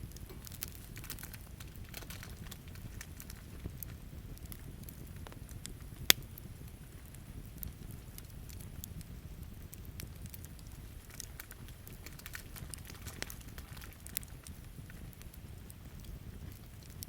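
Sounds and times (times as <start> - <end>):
campfire crackling and popping: 0.0 - 17.0
low steady rumble: 0.0 - 17.0.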